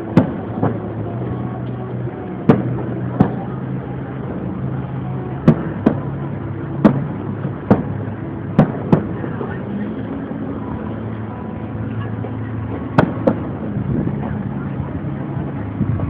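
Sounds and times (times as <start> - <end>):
fireworks bursting: 0.0 - 11.0, 11.9 - 16.0.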